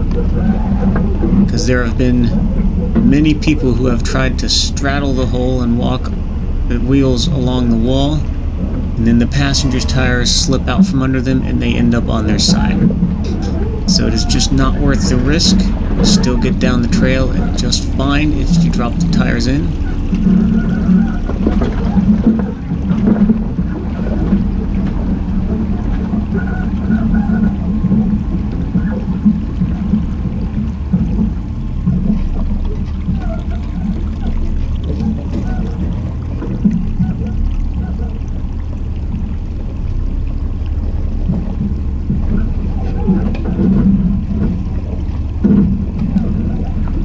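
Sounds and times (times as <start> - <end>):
car engine low hum: 0.0 - 47.0
wind rumbling on microphone: 0.0 - 47.0.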